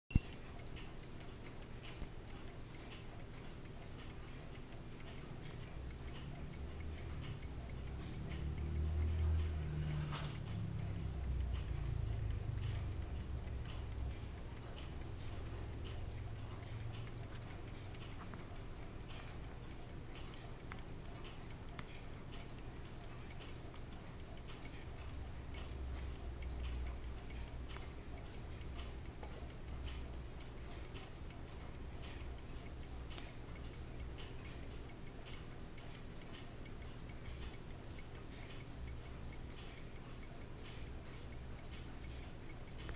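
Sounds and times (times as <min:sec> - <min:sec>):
pocket watch ticking: 0:00.1 - 0:42.9.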